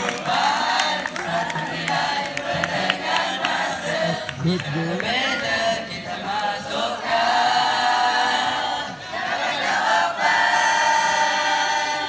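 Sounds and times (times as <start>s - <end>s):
group singing loudly: 0.0s - 12.0s.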